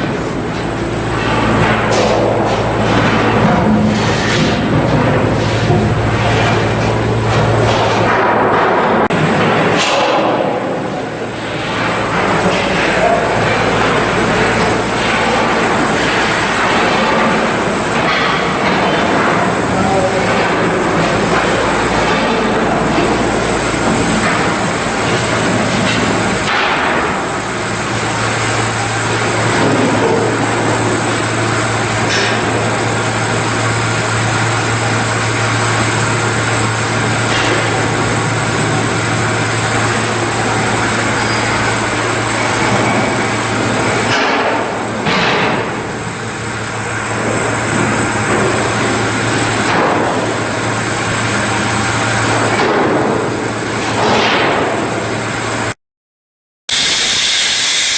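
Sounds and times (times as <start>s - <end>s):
machinery low hum: 0.0s - 55.7s
dense mechanical noise: 0.0s - 55.8s, 56.7s - 57.9s.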